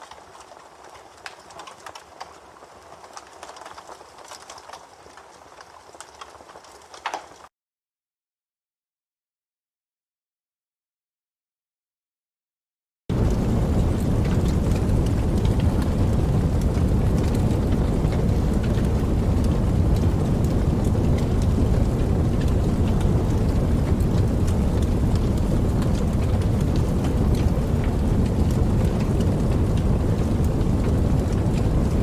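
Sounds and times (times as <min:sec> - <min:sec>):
rain falling: 0:00.0 - 0:07.5, 0:13.1 - 0:32.0.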